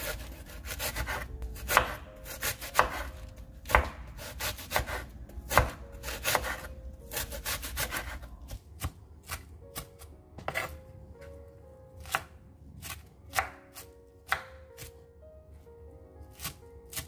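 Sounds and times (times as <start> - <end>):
knife slicing cabbage: 0.0 - 11.3, 12.0 - 14.9, 16.3 - 17.0.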